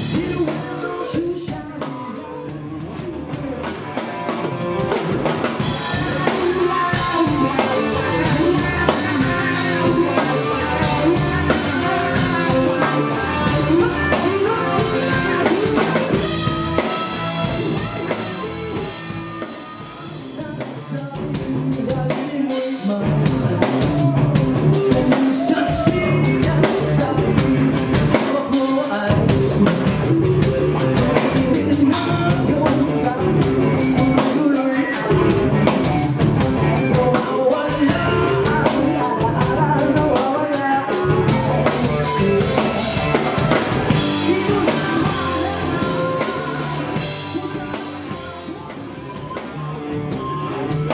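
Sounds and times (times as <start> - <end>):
bass guitar: 0.0 - 50.9
drums and cymbals: 0.0 - 50.9
electric guitars: 0.0 - 50.9
lead vocals: 0.0 - 50.9.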